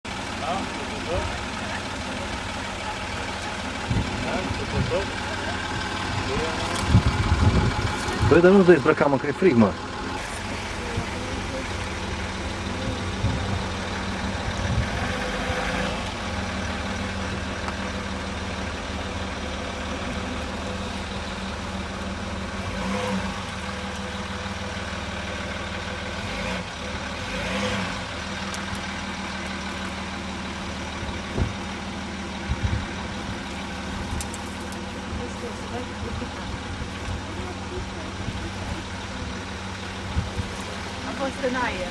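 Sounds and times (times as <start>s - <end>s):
engine running at low revs: 0.0s - 41.9s.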